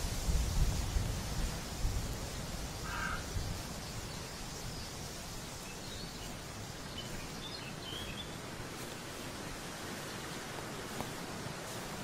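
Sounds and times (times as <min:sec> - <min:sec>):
leaves rustling in wind: 0:00.0 - 0:12.0.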